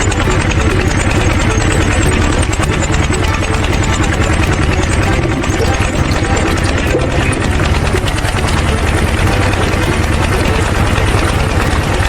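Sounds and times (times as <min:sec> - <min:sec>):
tractor engine chugging: 0:00.0 - 0:12.0.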